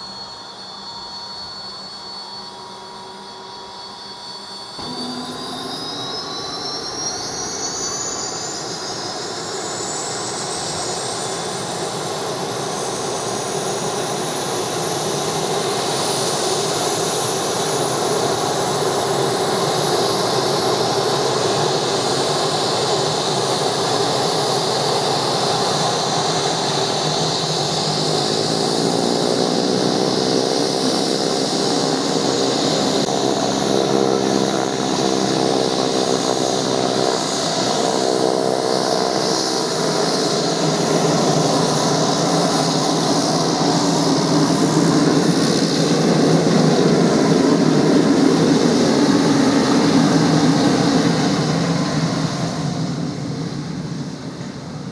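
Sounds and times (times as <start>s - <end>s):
propeller engine sound: 0.0s - 54.9s
turboprop turbine whine: 0.0s - 54.9s.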